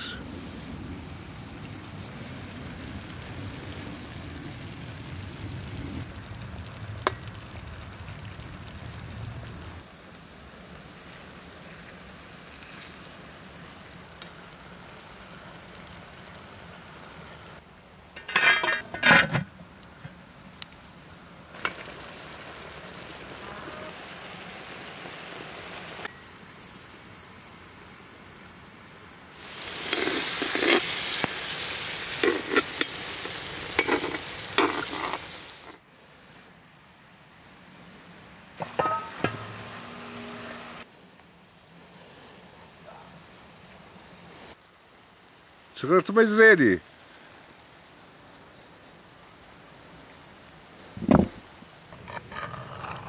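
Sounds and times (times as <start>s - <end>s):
stew bubbling and sizzling: 0.0s - 53.0s.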